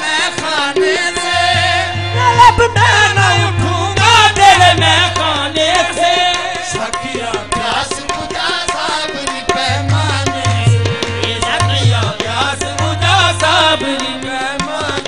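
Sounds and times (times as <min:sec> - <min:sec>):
tabla playing: 0:00.0 - 0:15.0.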